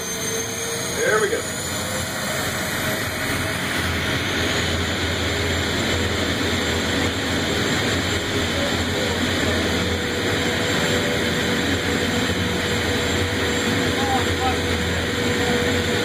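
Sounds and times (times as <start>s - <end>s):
jet engine running: 0.0s - 16.0s.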